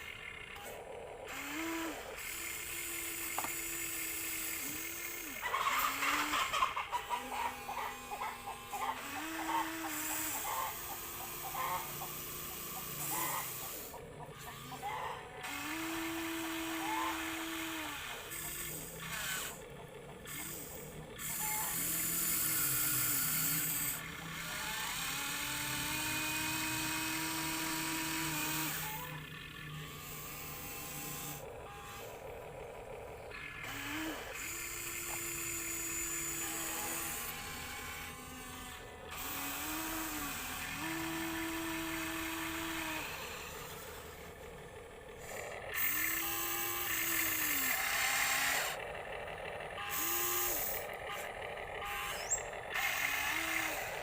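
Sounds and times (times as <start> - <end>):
toy electric motors whirring: 0.0 - 54.0.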